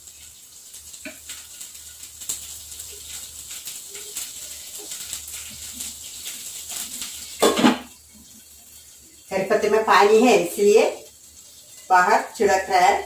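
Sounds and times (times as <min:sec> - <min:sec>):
seeds spluttering in hot oil: 0:00.0 - 0:13.0.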